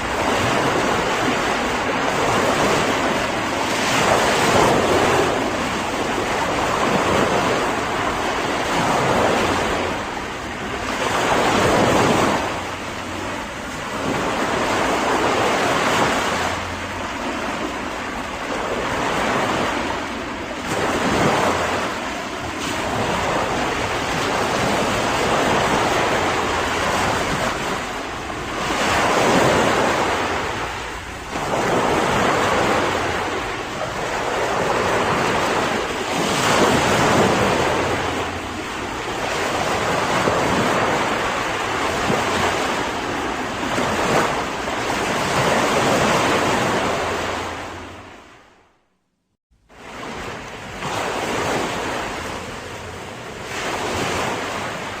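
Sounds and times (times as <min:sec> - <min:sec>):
sea waves breaking on shore: 0:00.0 - 0:48.8, 0:49.6 - 0:55.0.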